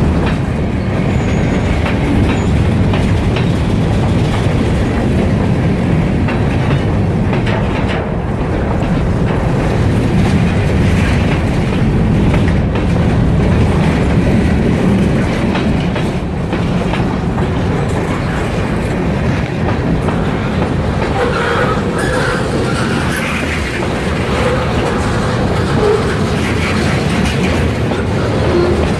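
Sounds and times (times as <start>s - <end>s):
freight train rumbling past: 0.0s - 28.9s
wheels clattering over rail joints: 0.0s - 28.9s.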